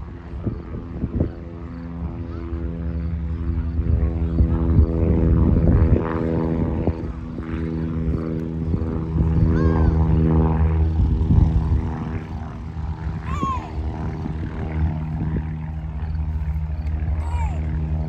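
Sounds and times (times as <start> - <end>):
propeller plane engine droning: 0.0 - 18.0.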